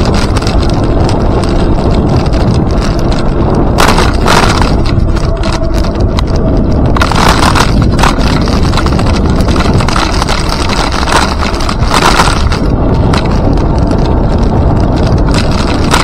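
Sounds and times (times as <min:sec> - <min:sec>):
rattling bursts: 0:00.0 - 0:16.0
road noise rumble: 0:00.0 - 0:16.0
wind buffeting microphone: 0:00.0 - 0:16.0.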